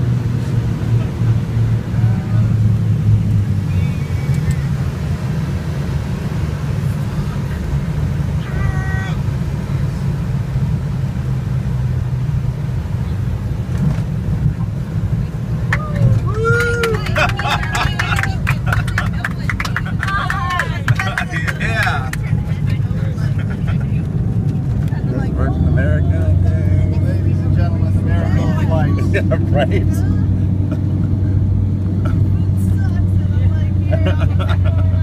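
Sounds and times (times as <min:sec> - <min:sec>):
aircraft piston engines droning: 0:00.0 - 0:13.6, 0:17.0 - 0:35.0.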